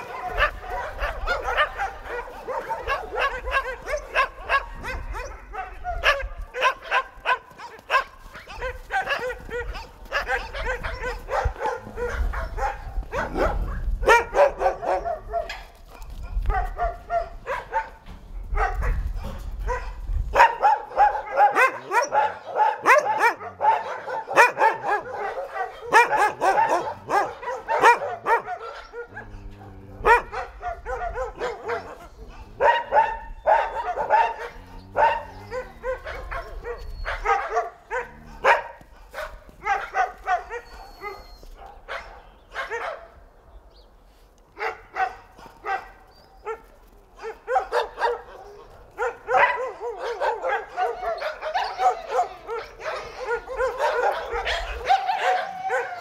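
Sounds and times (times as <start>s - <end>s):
dogs barking and yapping: 0.0s - 56.0s.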